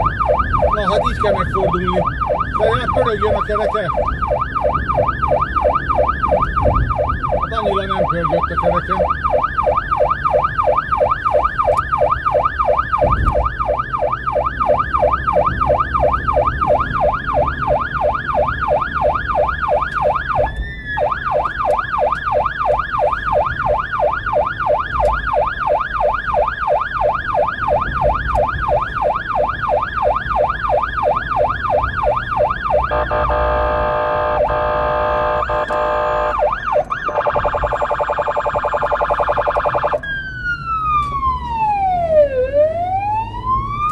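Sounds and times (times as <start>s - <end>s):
electronic siren yelping: 0.0s - 43.9s.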